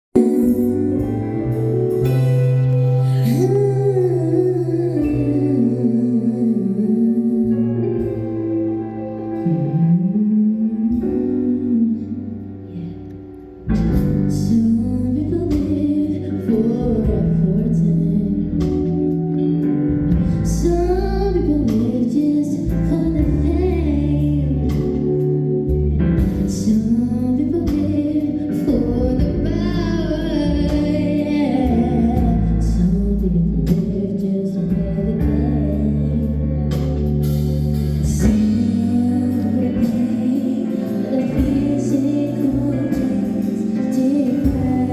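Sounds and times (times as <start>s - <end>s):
person singing: 0.0s - 13.2s, 13.8s - 44.9s
instrumental backing with heavy bass: 0.2s - 44.9s.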